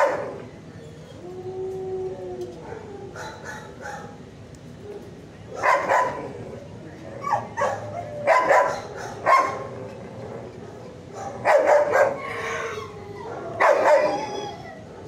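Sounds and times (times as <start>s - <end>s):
dogs barking: 0.0s - 0.6s, 2.5s - 15.0s.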